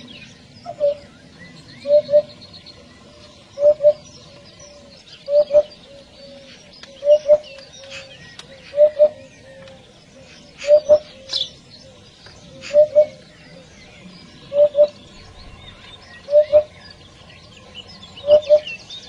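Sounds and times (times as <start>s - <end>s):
hoopoe calling: 0.0s - 19.0s
small birds chirping: 0.0s - 19.0s.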